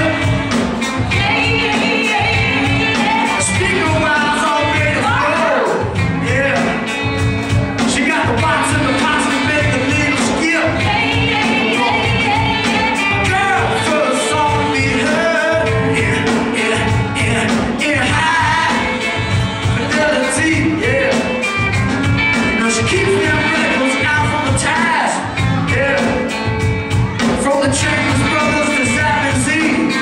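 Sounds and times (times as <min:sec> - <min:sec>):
saxophones: 0:00.0 - 0:27.1
lead singer: 0:00.0 - 0:30.0
live band playing: 0:00.0 - 0:30.0.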